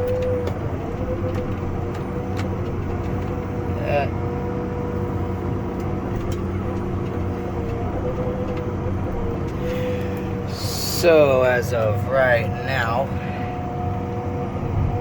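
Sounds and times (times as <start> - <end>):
steady whine: 0.0 - 15.0
tractor engine drone: 0.0 - 15.0.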